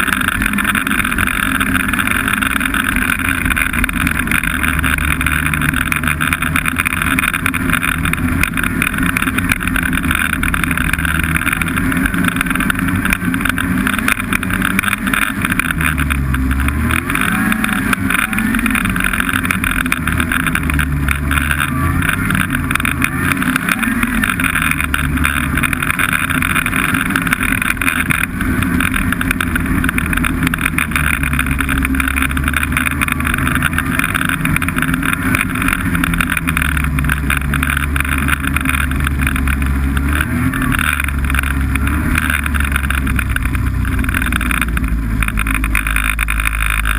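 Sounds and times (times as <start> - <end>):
snowmobile engine running: 0.0 - 46.9.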